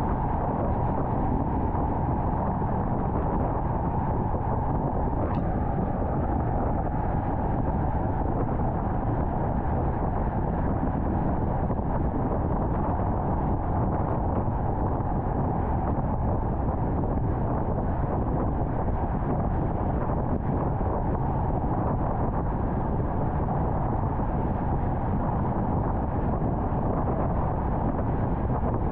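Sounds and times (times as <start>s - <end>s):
car road and wind noise: 0.0s - 28.9s.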